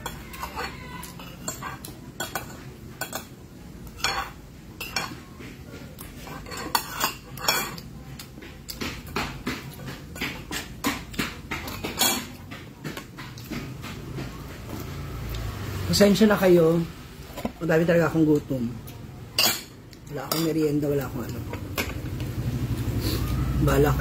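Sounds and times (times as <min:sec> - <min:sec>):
dishes and utensils clinking: 0:00.0 - 0:15.6, 0:17.2 - 0:22.4.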